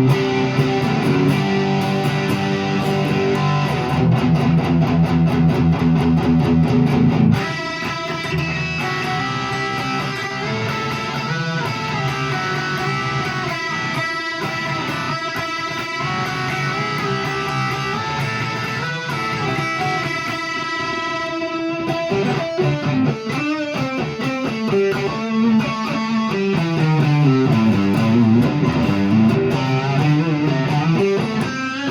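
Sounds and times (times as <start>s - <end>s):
electric guitar playing: 0.0s - 31.9s.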